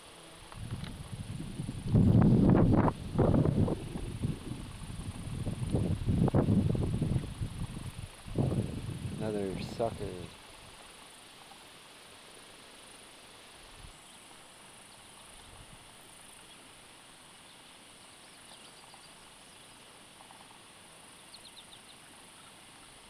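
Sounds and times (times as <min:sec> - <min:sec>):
high insect chirps: 0:00.0 - 0:23.0
steady hiss: 0:00.0 - 0:23.0.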